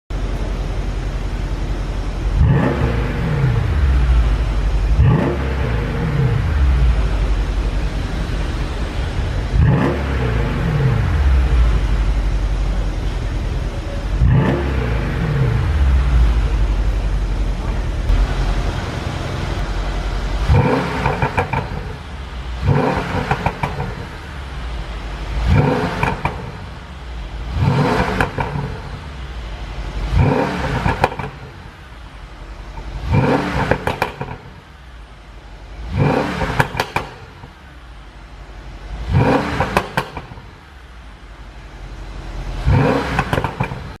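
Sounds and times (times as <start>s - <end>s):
exhaust popping and crackling: 0.1s - 37.8s, 38.4s - 44.0s
car engine revving: 0.6s - 44.0s.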